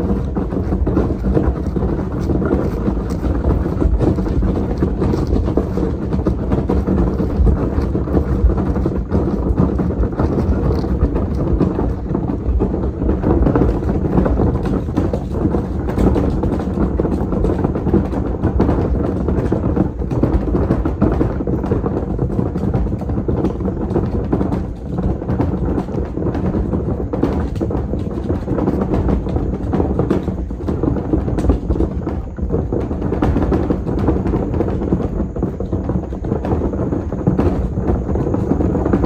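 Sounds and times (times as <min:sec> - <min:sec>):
wheeled bin rumbling over gravel: 0:00.0 - 0:39.0.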